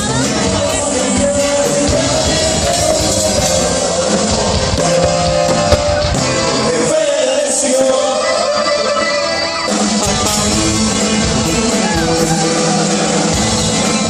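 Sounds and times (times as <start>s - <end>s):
guitar: 0.0s - 14.0s
person singing: 0.0s - 14.0s
rock music: 0.0s - 14.0s.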